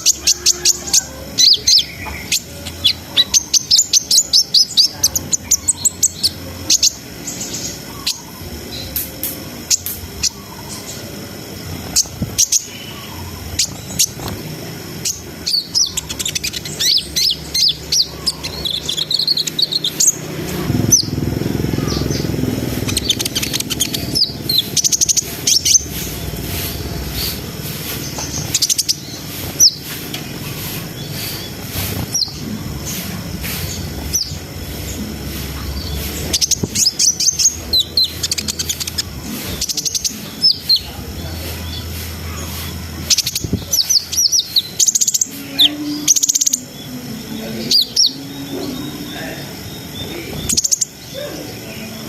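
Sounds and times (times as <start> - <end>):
bird twittering and chirping: 0.0 - 52.0.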